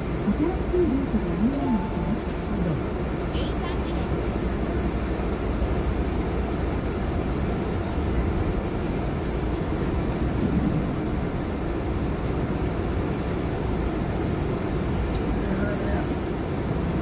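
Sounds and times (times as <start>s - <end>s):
low rumble inside moving car: 0.0s - 17.0s.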